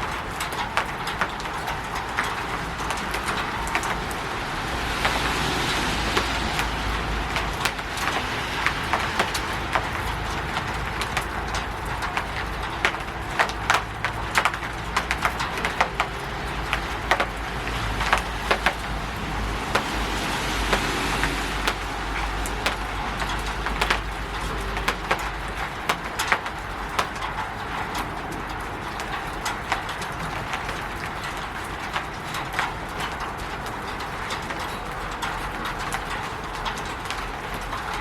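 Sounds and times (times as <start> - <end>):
rain pattering on a roof: 0.0 - 38.0.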